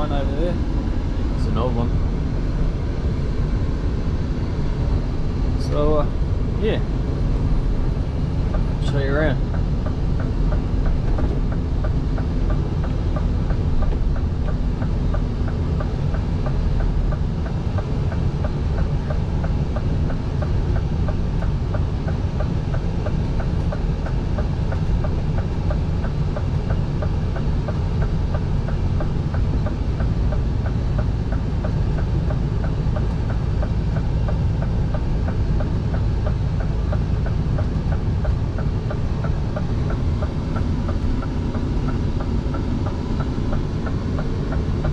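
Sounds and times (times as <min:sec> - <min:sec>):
road noise: 0:00.0 - 0:44.9
truck engine drone: 0:00.0 - 0:44.9.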